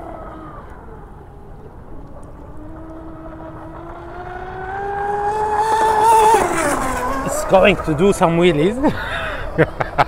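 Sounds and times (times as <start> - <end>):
electric motors whining: 0.0 - 9.9.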